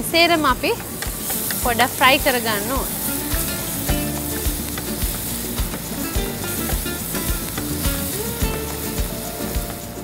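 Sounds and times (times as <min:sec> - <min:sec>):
onion and garlic sizzling: 0:00.0 - 0:10.0
background music with beat: 0:00.9 - 0:10.0.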